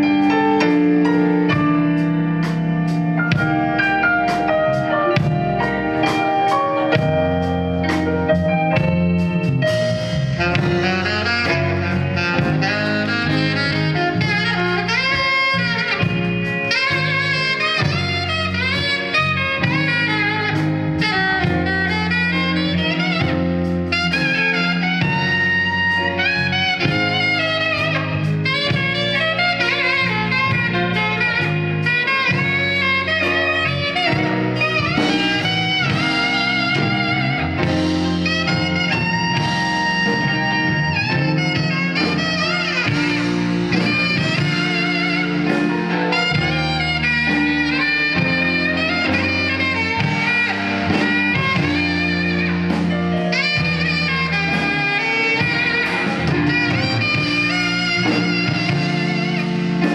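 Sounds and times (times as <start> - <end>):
bass: 0.0 - 59.9
drums: 0.0 - 59.9
saxophone lead melody: 0.0 - 59.9.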